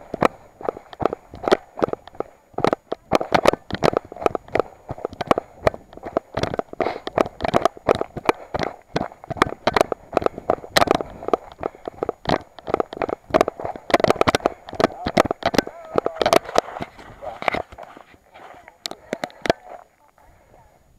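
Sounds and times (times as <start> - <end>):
running footsteps on stony trail: 0.0 - 20.7.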